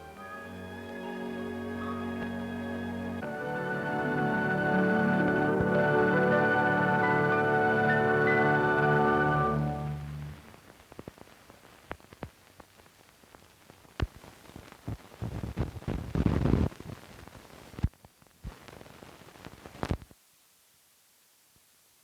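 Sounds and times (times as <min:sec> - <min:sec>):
film hiss: 0:00.0 - 0:22.0.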